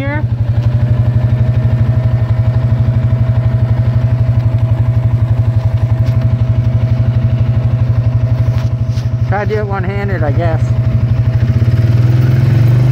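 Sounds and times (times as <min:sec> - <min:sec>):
atv engine running at low revs: 0:00.0 - 0:12.9.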